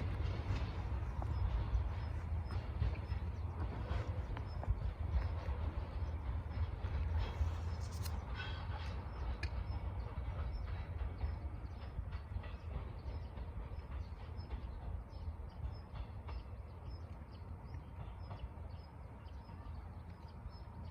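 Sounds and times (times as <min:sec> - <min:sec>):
train rumbling on rails: 0:00.0 - 0:20.9.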